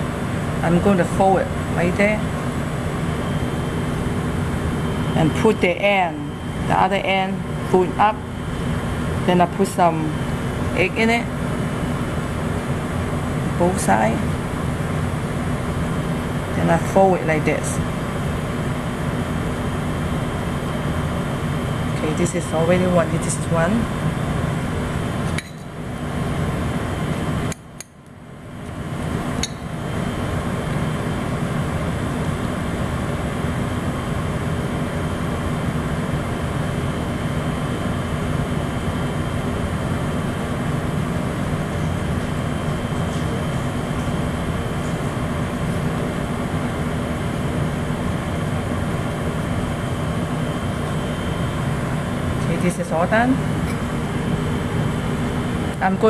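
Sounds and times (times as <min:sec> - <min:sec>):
ventilation fan hum and hiss: 0:00.0 - 0:56.0.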